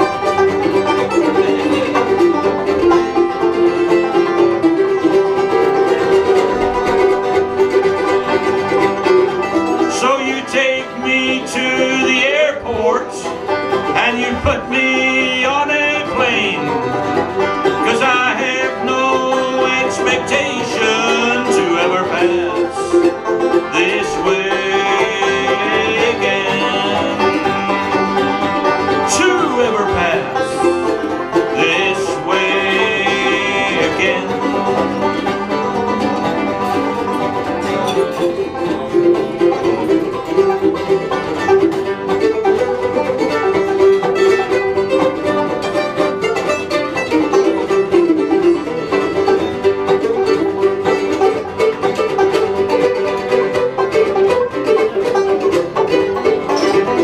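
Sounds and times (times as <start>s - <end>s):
acoustic guitar strumming: 0.0s - 57.0s
banjo picking: 0.0s - 57.0s
fiddle playing melody: 0.0s - 57.0s.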